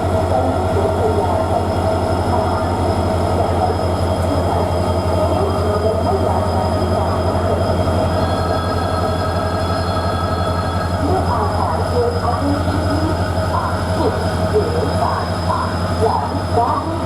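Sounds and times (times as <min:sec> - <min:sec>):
diesel locomotive engine throbbing: 0:00.0 - 0:17.0.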